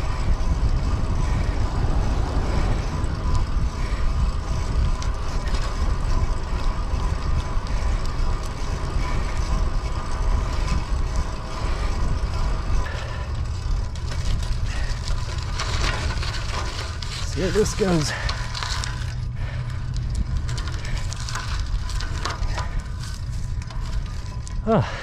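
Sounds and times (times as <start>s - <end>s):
tyres rolling on pavement: 0.0s - 25.0s
wind buffeting microphone: 0.0s - 25.0s.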